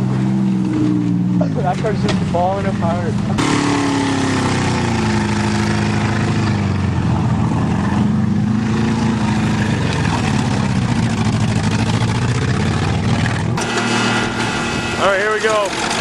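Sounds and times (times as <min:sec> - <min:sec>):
bulldozer engine running: 0:00.0 - 0:16.0.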